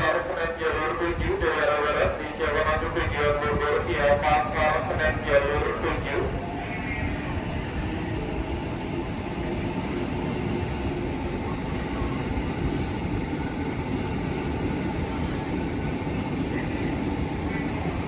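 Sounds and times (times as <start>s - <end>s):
train wheels on track: 0.0s - 18.0s.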